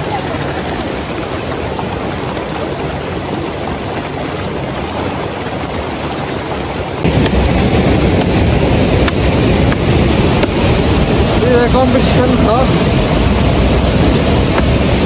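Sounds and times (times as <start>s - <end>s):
deep rushing water: 0.0s - 15.0s
stream water splashing over rocks: 0.0s - 15.0s.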